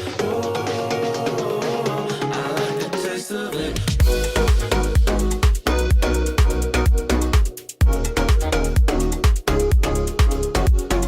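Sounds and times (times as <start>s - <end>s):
electronic pop backing track: 0.0s - 11.0s.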